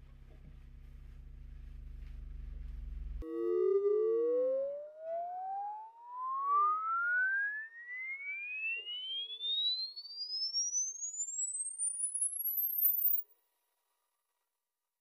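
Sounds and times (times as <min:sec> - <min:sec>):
rising sine tone sweep: 0:00.4 - 0:13.2.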